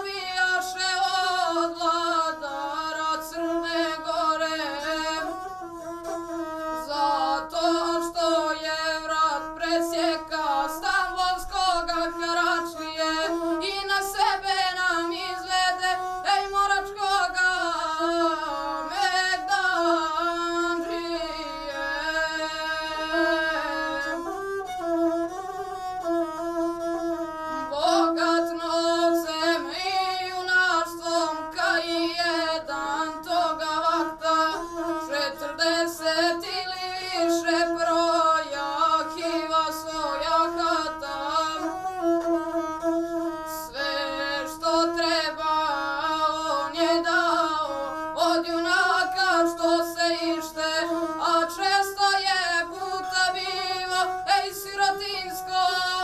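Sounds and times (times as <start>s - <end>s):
bowed single-string fiddle: 0.0s - 56.0s
boy singing: 0.0s - 56.0s.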